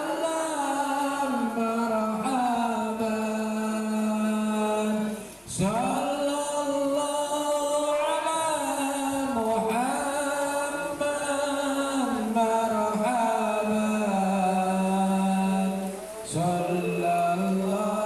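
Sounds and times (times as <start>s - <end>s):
person singing devotional chant: 0.0s - 18.0s.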